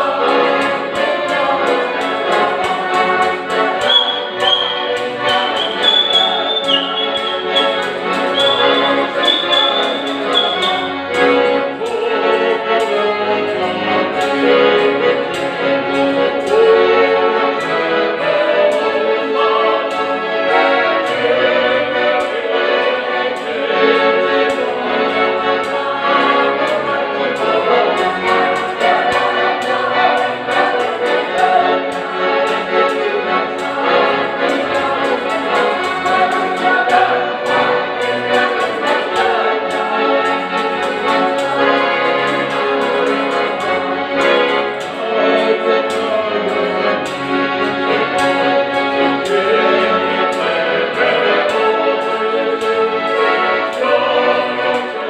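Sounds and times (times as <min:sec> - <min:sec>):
accordions playing folk song: 0:00.0 - 0:55.0
choir singing: 0:00.0 - 0:55.0.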